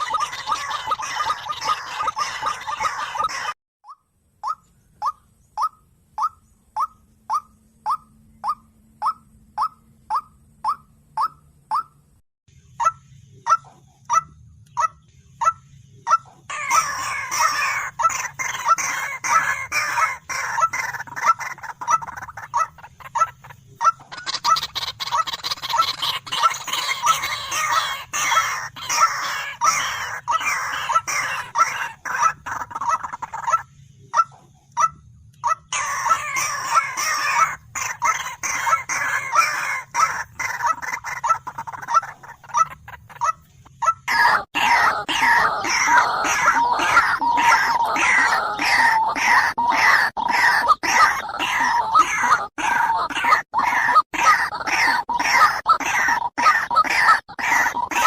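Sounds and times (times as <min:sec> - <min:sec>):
waterhens calling: 0:00.0 - 0:11.9, 0:12.8 - 0:58.0
overlapping bird calls: 0:00.0 - 0:58.0.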